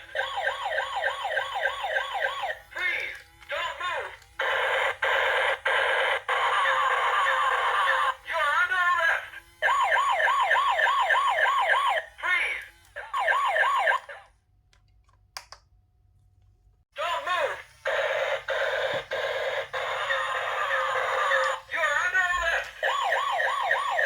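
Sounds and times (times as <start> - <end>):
toy electronic siren: 0.0 - 14.3, 17.2 - 24.0.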